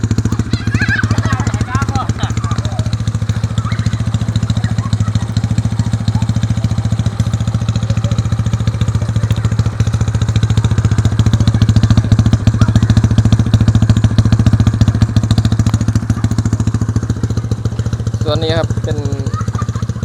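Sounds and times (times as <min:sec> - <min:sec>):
scooter engine running: 0:00.0 - 0:20.0.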